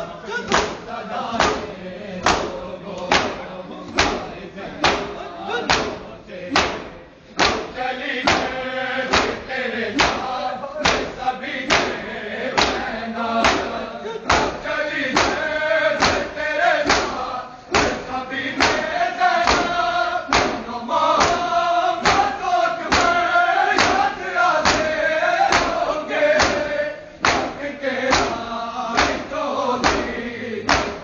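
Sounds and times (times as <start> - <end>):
men chanting together: 0.0 - 31.0
hands slapping bare chests: 0.5 - 9.4, 10.0 - 12.0, 12.6 - 15.4, 16.0 - 23.2, 23.8 - 28.4, 29.0 - 31.0.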